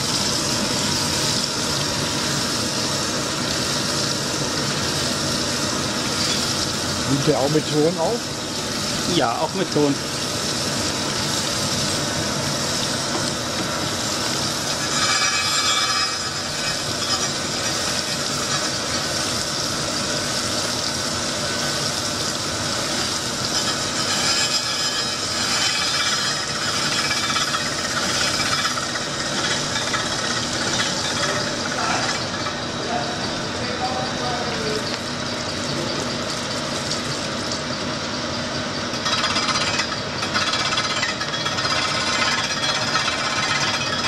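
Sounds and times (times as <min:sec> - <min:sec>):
grinding machine grinding metal: 0:00.0 - 0:44.0.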